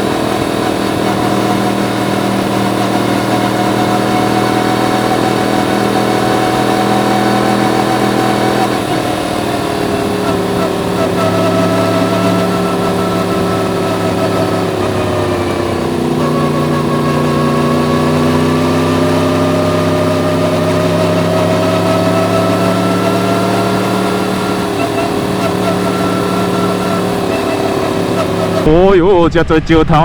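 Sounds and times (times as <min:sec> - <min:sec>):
motorcycle engine running: 0:00.0 - 0:28.7.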